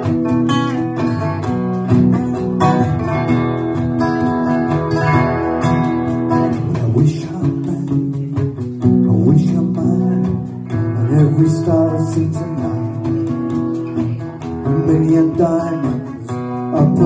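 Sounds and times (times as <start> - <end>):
cajon beat: 0.0 - 17.0
cigar box guitar lead notes: 0.0 - 17.0
strummed acoustic guitar: 0.0 - 17.0.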